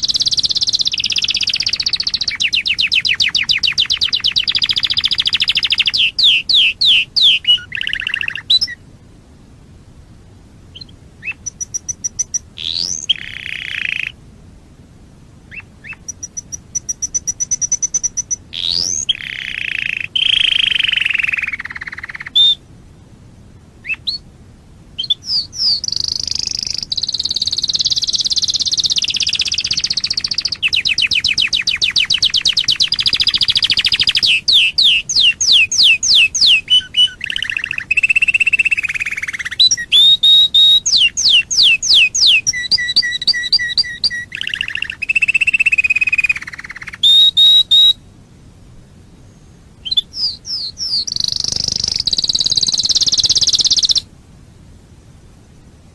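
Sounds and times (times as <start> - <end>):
canary singing trills: 0.0 - 8.8, 10.7 - 14.2, 15.5 - 22.6, 23.8 - 24.3, 25.0 - 48.0, 48.9 - 54.1.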